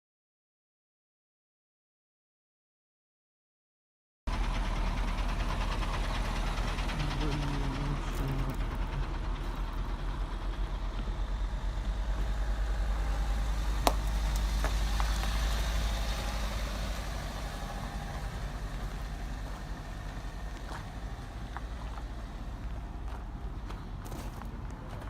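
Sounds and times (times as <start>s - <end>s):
car engine and road noise: 4.3s - 25.0s.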